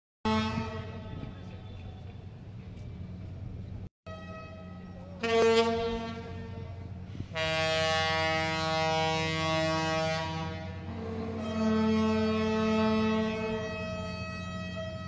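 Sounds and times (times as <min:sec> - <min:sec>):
boat horns blasting: 0:00.2 - 0:02.0, 0:04.1 - 0:15.0.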